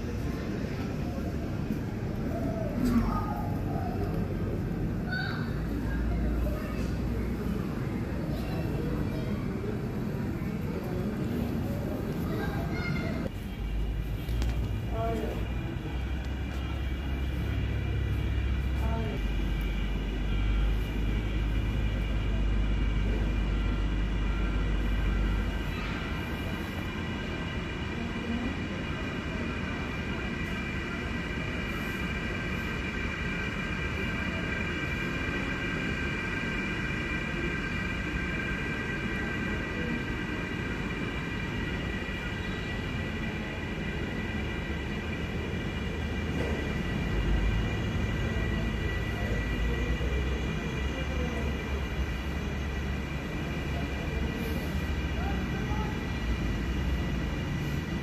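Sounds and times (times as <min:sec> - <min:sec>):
jet engines whining: 0:00.0 - 0:58.0
low engine rumble: 0:00.0 - 0:58.0.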